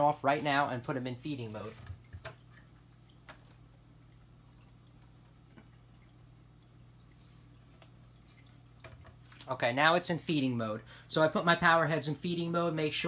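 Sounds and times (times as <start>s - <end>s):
aquarium equipment humming: 0.0s - 13.0s.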